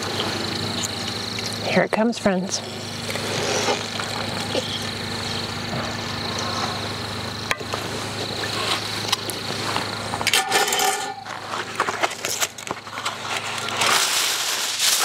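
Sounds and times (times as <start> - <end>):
mechanical motor hum: 0.0 - 15.0.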